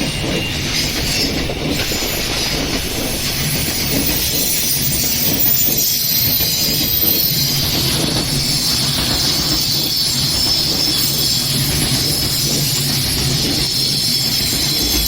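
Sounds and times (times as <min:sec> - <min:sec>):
train running past: 0:00.0 - 0:15.0.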